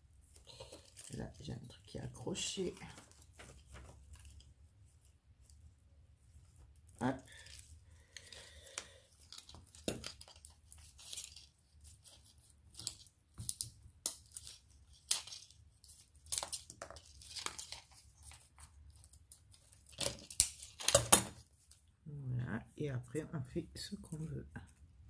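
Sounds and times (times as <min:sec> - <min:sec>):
rustles and crinkles of decorations: 0:00.0 - 0:25.0.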